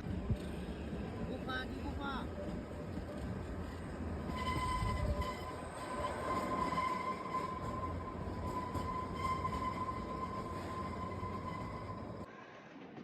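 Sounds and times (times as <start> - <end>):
wheels squealing on rails: 0.0 - 12.6
train wheels rumbling: 0.0 - 13.0.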